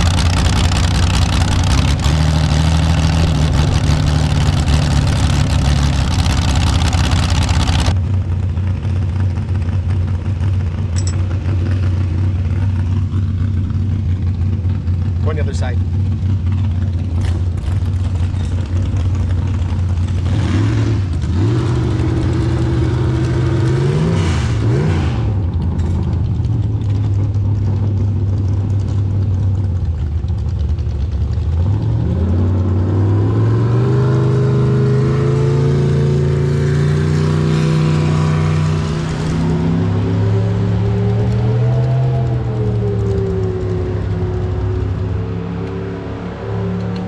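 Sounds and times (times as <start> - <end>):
tractor engine revving: 0.0 - 8.0, 10.0 - 47.0.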